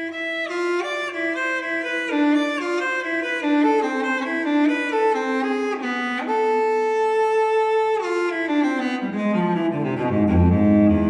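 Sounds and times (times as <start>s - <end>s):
solo cello: 0.0s - 11.0s.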